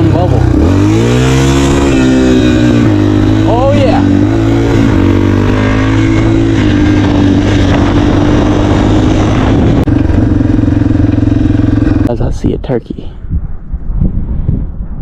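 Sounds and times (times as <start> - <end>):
dirt bike engine running: 0.0 - 12.4.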